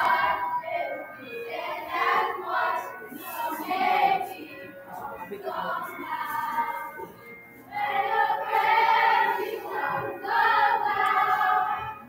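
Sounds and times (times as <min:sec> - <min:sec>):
children singing together: 0:00.0 - 0:12.0
music: 0:00.0 - 0:12.0.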